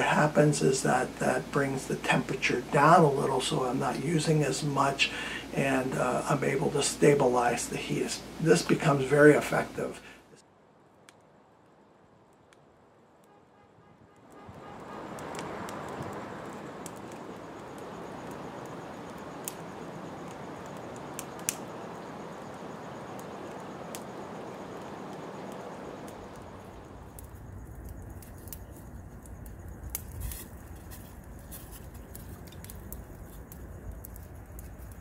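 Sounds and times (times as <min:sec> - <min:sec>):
wood fire rushing and crackling: 0:00.0 - 0:35.0.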